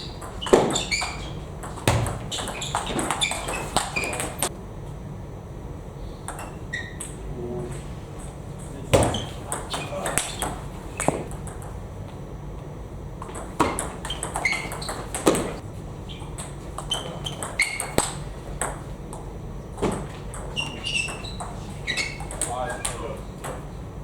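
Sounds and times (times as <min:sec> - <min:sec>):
table tennis ball pinging: 0:00.0 - 0:04.5, 0:06.3 - 0:11.8, 0:13.2 - 0:23.8.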